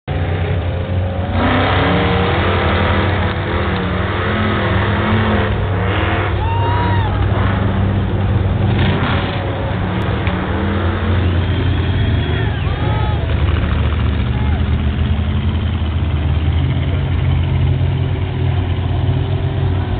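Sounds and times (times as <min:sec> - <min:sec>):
truck engine revving: 0:00.1 - 0:19.9.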